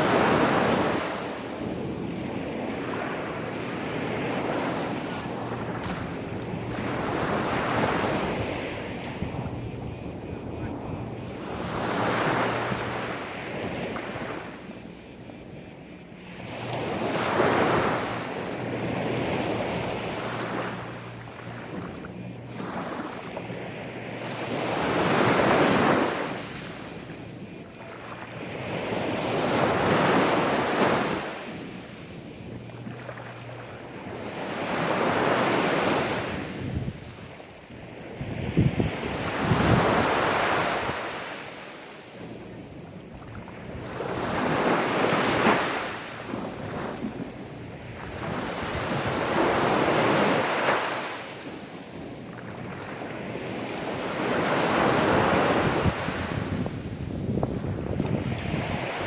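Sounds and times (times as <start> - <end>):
sea waves washing onto beach: 0.0 - 59.0.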